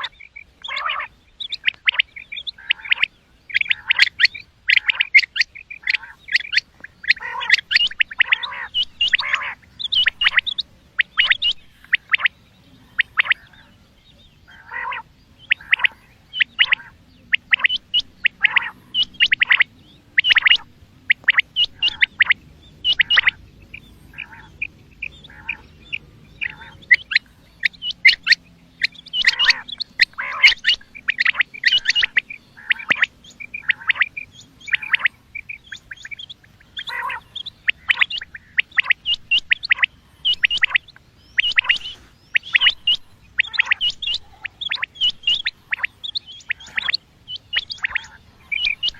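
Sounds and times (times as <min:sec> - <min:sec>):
quail calling: 0:00.0 - 0:48.9.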